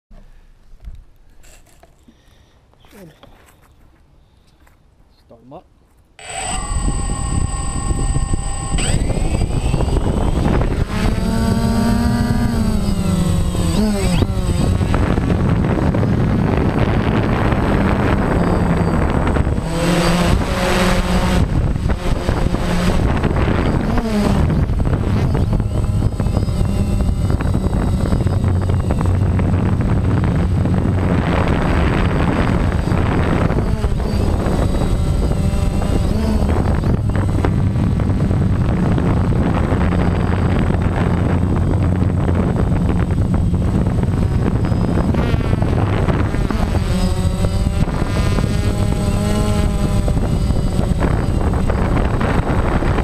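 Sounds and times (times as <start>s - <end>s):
drone propellers whining: 6.2s - 53.0s
wind buffeting microphone: 6.2s - 53.0s.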